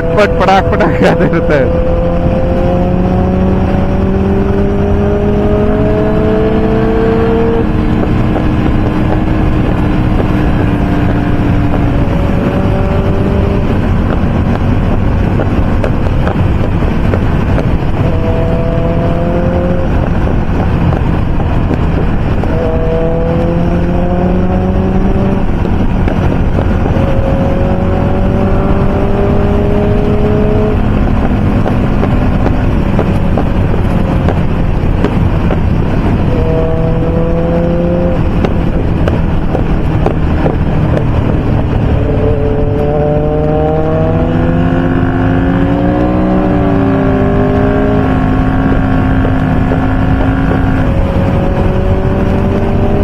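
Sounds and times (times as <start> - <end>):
heavy wind noise: 0.0 - 53.0
motorcycle engines at speed: 0.0 - 53.0.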